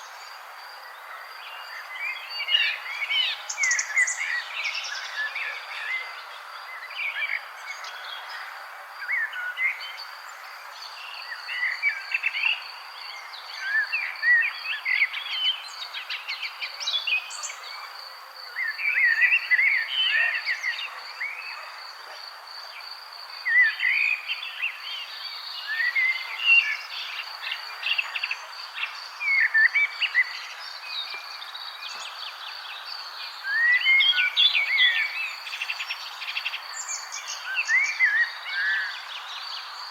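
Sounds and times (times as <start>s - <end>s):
small birds chirping: 0.0s - 22.2s, 22.9s - 39.9s.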